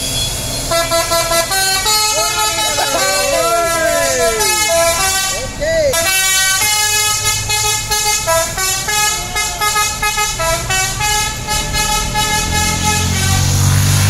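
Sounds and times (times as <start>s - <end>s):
low engine rumble: 0.0s - 14.0s
bus musical horn tune: 0.2s - 14.0s.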